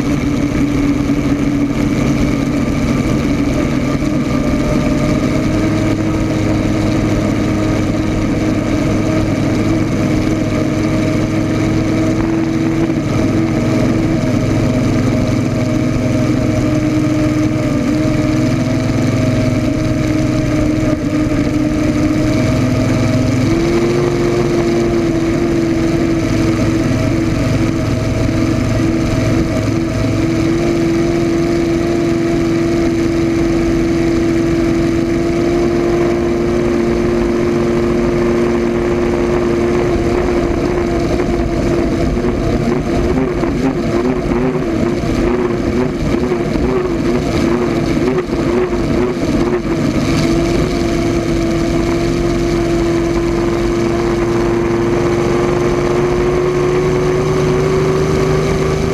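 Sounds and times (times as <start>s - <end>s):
aircraft engine running at speed: 0.0s - 58.9s.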